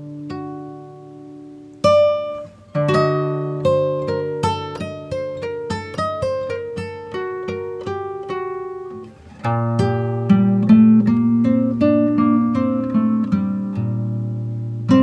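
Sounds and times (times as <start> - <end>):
plucked-string melody: 1.8 - 15.0.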